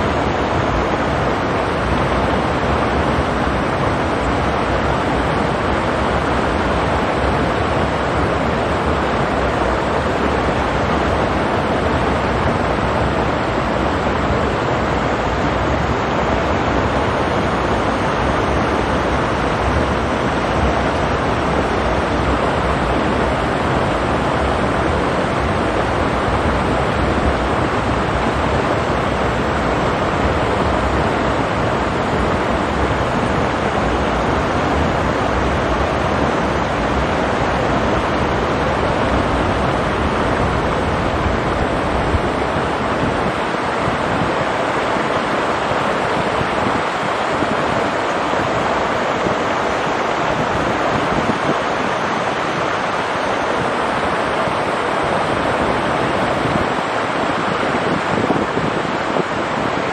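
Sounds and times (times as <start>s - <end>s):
stream rushing over stones: 0.0s - 59.9s
wind rumble on microphone: 0.0s - 59.9s.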